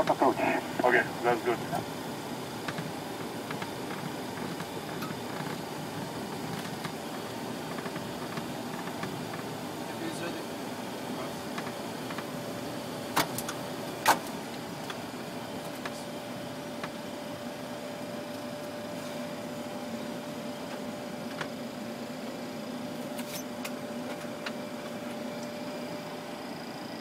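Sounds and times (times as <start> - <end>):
steady cockpit hum: 0.0 - 27.0.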